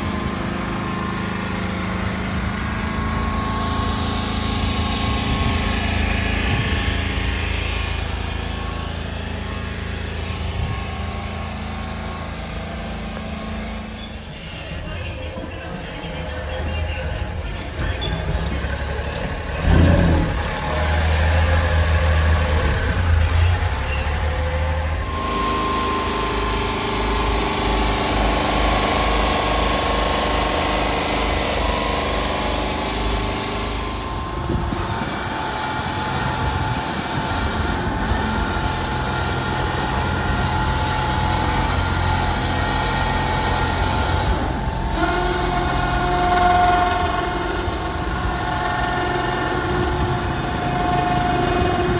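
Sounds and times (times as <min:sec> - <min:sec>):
electric crane whine: 0:00.0 - 0:51.9
small truck engine idling: 0:00.0 - 0:51.9.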